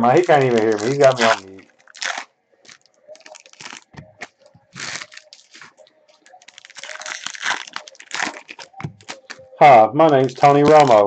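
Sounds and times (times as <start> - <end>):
cards and wrappers rustling: 0.0 - 11.0.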